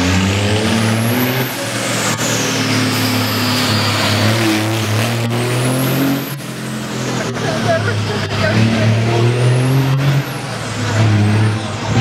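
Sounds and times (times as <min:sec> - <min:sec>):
diesel truck engine revving hard: 0:00.0 - 0:12.0.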